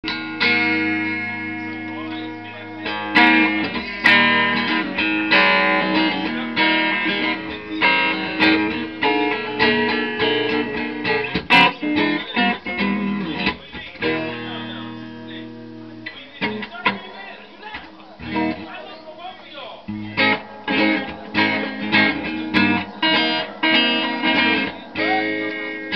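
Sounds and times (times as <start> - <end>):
electric guitar chords and notes: 0.0 - 17.1, 18.2 - 18.8, 19.9 - 25.9.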